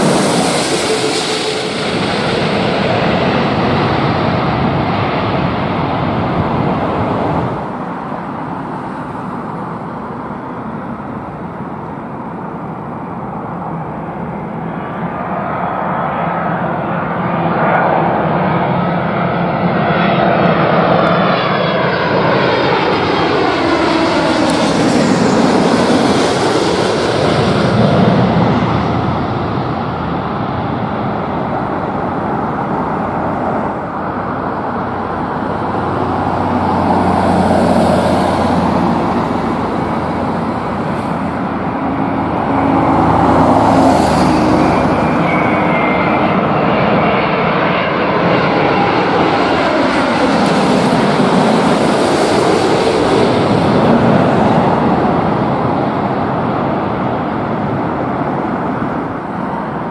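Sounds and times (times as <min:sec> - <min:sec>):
jet airliners passing overhead: 0:00.0 - 0:59.9.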